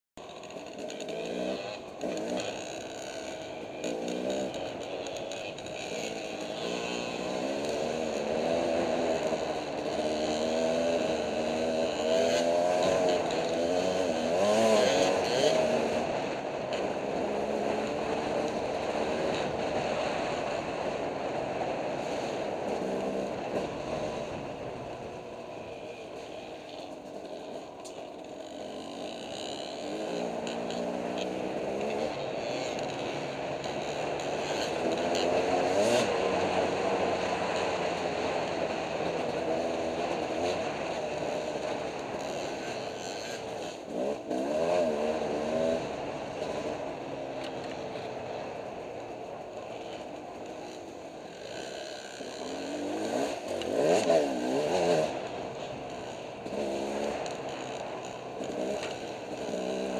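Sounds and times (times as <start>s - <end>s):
dirt bike engine revving: 0.2s - 59.9s.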